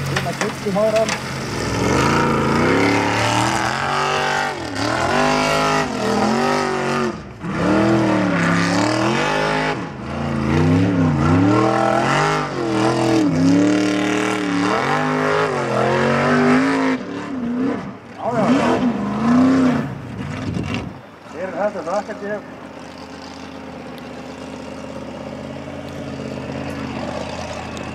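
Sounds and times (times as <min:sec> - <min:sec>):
buggy engine revving hard: 0:00.0 - 0:27.9.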